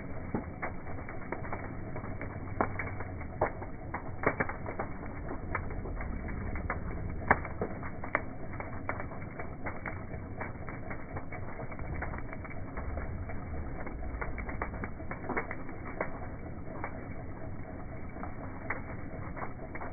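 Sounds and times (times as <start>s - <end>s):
low rumble of flames: 0.0s - 19.9s
wood crackling and popping: 0.0s - 19.9s.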